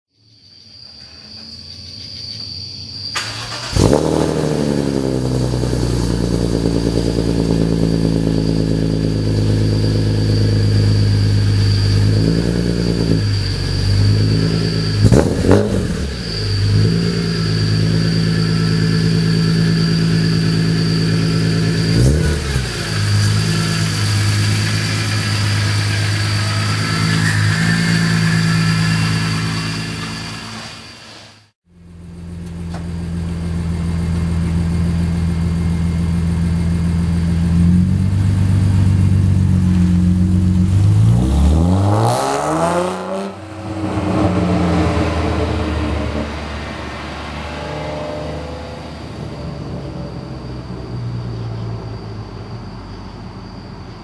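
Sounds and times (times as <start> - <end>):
steady high whine: 1.0 - 54.0
car engine starting and idling: 3.0 - 53.6.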